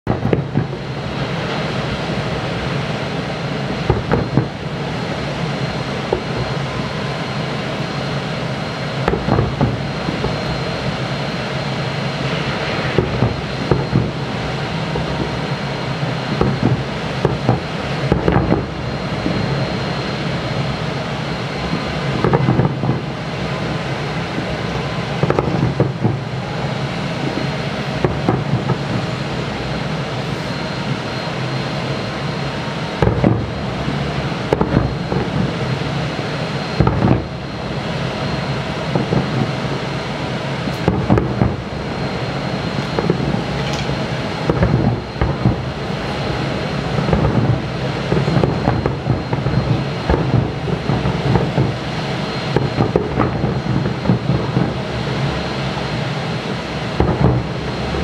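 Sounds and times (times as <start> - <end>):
background rumble: 0.1 - 56.2
fireworks bursting: 0.1 - 58.0.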